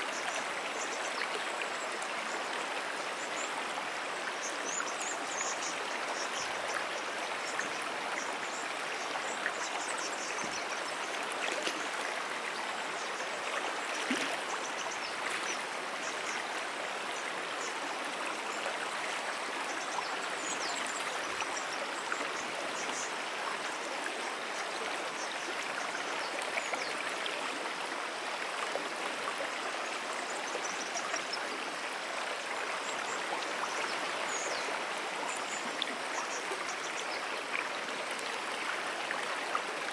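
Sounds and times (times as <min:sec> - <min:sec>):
brook water rushing: 0:00.0 - 0:39.9.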